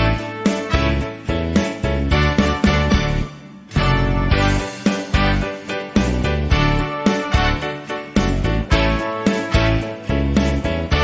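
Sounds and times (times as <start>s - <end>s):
upbeat music with plucked strings: 0.0s - 11.0s.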